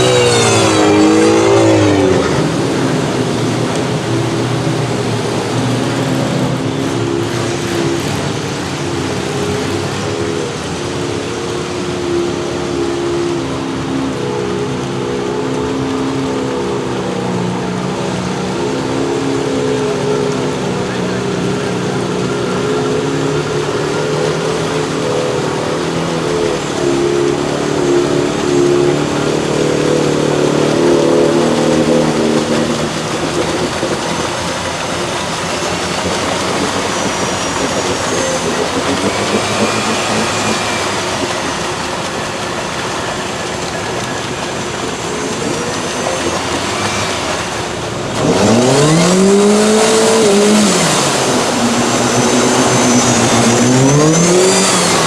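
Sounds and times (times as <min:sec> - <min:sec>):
vehicle engine revving hard: 0:00.0 - 0:55.0.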